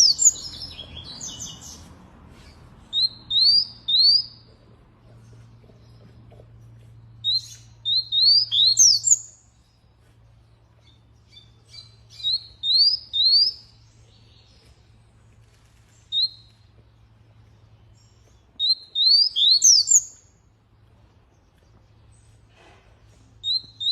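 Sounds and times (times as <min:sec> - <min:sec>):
canary singing: 0:00.0 - 0:20.6, 0:23.3 - 0:23.9.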